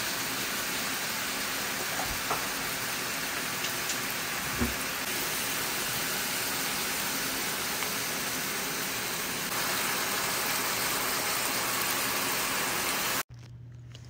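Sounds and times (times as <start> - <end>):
stir-fry sizzling in hot pan: 0.0 - 13.2.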